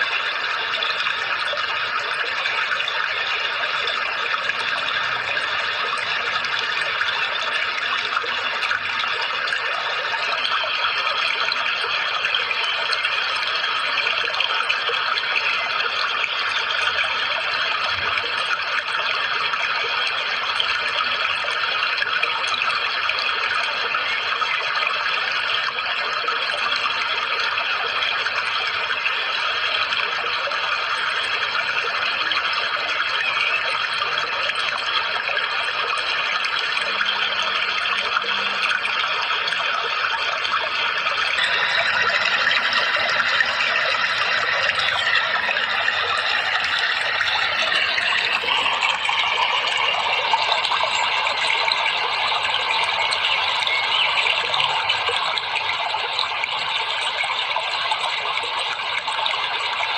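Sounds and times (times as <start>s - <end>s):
faint thin steady tones: 0.0s - 59.9s
rushing water: 0.0s - 59.9s.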